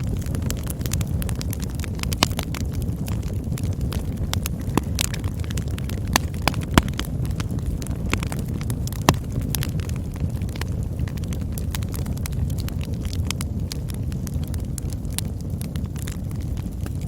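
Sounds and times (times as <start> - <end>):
campfire burning: 0.0 - 17.0.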